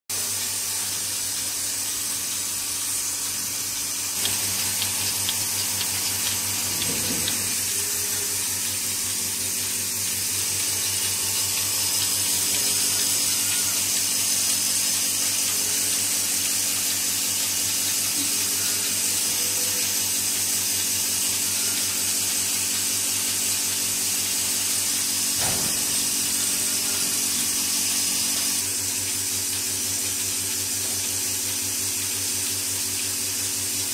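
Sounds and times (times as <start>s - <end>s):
milking machine humming and hissing: 0.1s - 33.9s.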